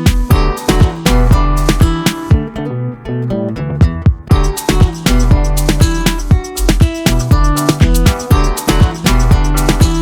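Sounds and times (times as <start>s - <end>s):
steady drum beat: 0.0s - 2.5s, 3.8s - 10.0s
deep bass line: 0.0s - 10.0s
pitched instrumental notes: 0.0s - 10.0s.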